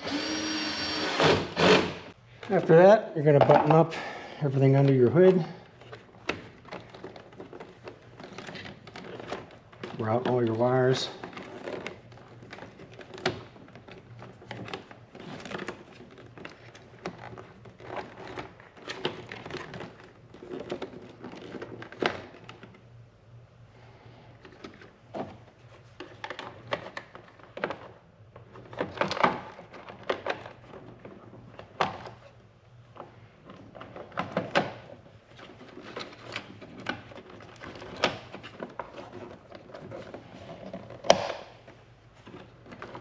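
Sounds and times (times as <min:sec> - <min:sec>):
crinkling rustles: 0:02.3 - 0:23.4, 0:24.3 - 0:43.0
hands handling plastic wiring: 0:04.5 - 0:23.6, 0:24.3 - 0:43.0.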